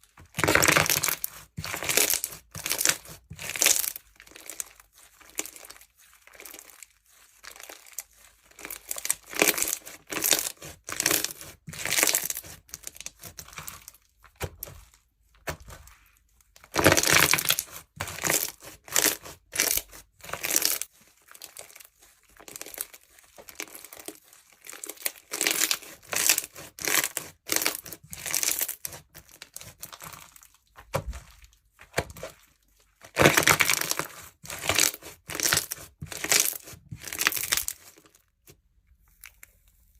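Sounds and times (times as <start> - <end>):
slime squelching by hand: 0.0 - 39.9.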